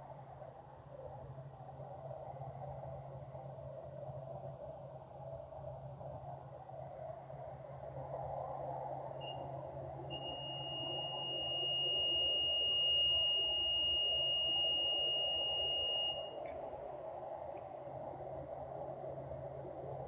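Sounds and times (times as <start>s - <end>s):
high steady whine: 0.0s - 20.0s.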